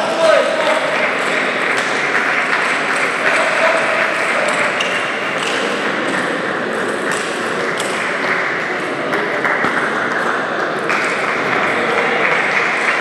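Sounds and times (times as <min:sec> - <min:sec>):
hubbub of a busy hall: 0:00.0 - 0:13.0
table tennis balls clicking: 0:00.7 - 0:11.7.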